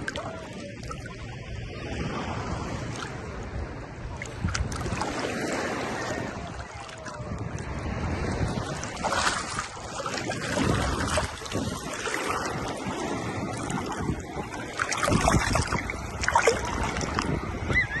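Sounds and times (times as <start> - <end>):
small waves lapping at shore: 0.0 - 18.0
wind rumble on microphone: 0.0 - 18.0.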